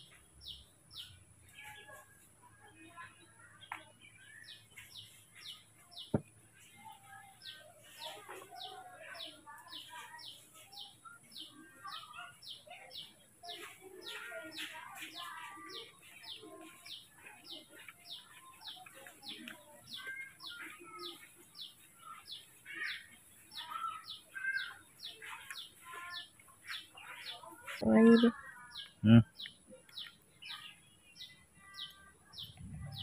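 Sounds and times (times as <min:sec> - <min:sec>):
birds chirping: 0:00.0 - 0:02.2, 0:03.2 - 0:33.0.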